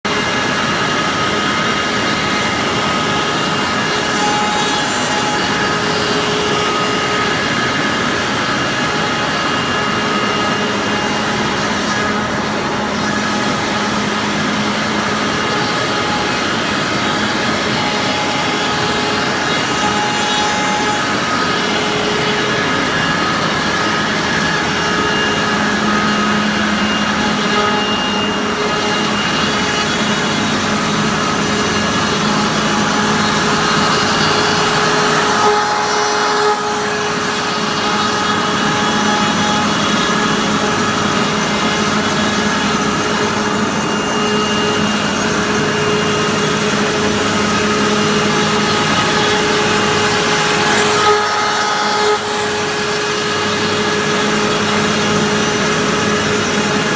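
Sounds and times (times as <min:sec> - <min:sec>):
cnc router spindle cutting: 0:00.0 - 0:56.9
steady whining tones: 0:00.1 - 0:56.9
vacuum pumps and dust extraction: 0:00.1 - 0:56.9.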